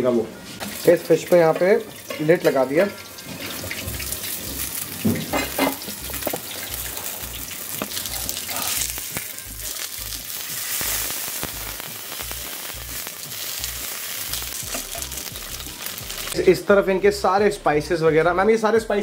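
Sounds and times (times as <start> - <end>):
fish sizzling in hot oil: 0.6 - 16.4.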